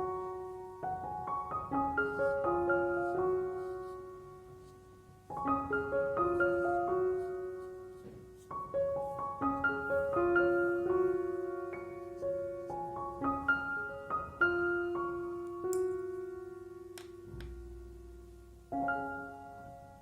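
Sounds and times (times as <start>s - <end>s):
piano arpeggios: 0.0s - 20.0s.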